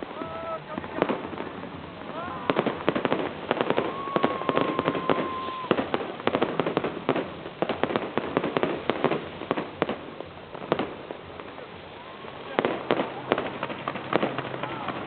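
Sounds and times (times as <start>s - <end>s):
firework bangs and crackles: 0.0s - 15.0s
firework whistling: 0.0s - 15.0s.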